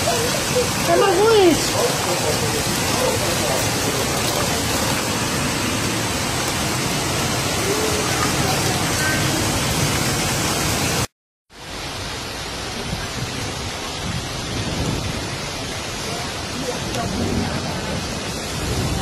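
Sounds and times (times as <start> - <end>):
heavy rain hiss: 0.0 - 19.0
rushing floodwater: 0.0 - 19.0.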